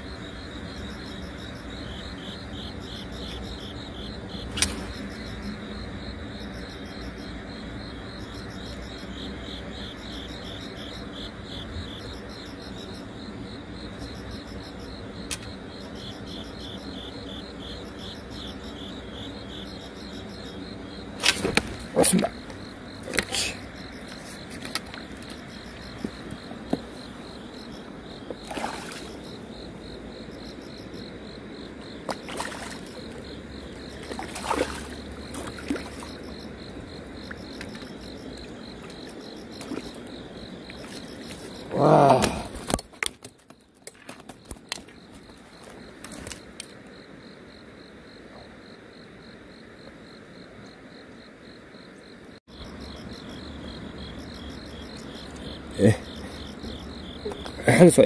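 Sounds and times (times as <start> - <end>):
insects chirping in pulsing rhythm: 0.0 - 58.0
outdoor background noise: 0.0 - 58.0.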